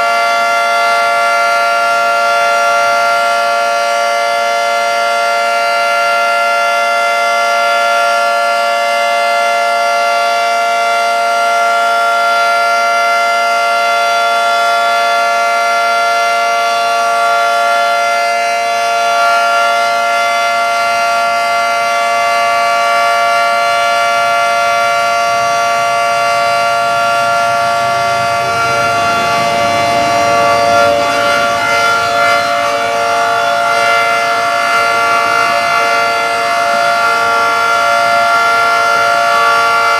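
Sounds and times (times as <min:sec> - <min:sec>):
dual-tone warning siren: 0:00.0 - 0:39.9.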